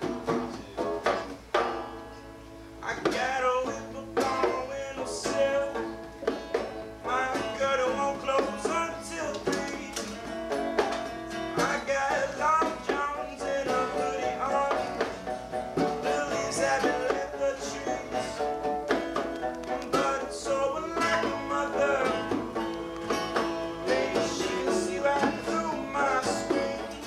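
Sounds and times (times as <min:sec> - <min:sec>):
strummed acoustic guitar: 0:00.0 - 0:27.0
banjo picking rapid notes: 0:03.0 - 0:27.0.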